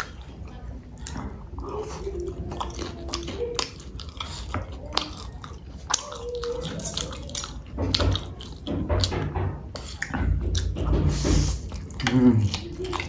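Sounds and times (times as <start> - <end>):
wet chewing and lip smacks: 0.0 - 13.0.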